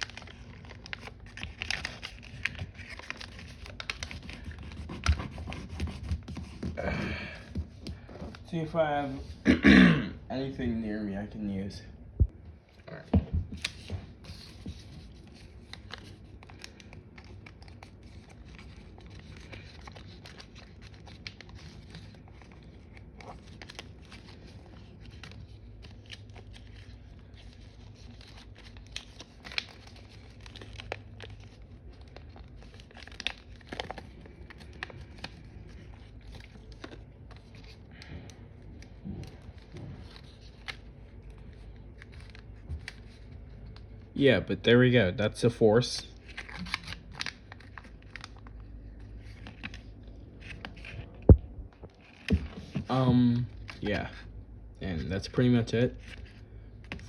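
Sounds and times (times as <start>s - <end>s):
paper rustling and crinkling: 0.0s - 9.4s, 13.5s - 44.1s, 46.1s - 57.0s
faint steady hum: 0.0s - 57.0s.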